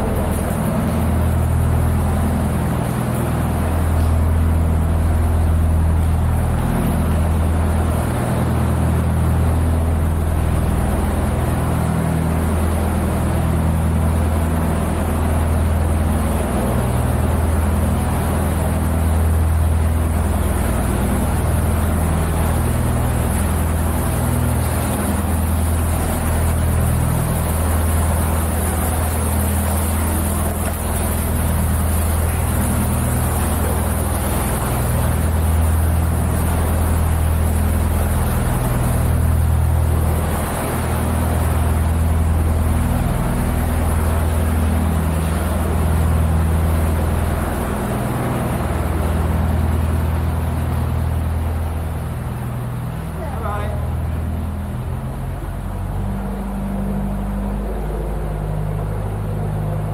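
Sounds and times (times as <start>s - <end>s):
diesel boat engine droning: 0.0s - 59.9s.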